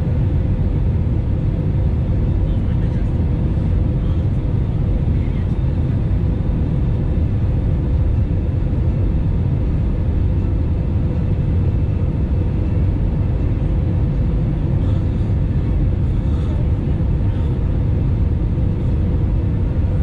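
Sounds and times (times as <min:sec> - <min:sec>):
aircraft engine rumble: 0:00.0 - 0:20.0.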